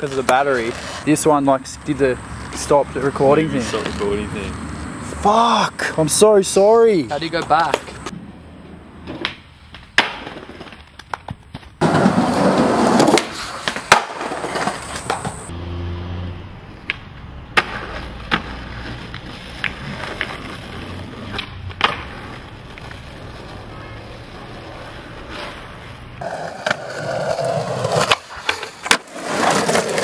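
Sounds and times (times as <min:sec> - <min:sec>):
skateboard wheels rolling on pavement: 0:00.0 - 0:30.0.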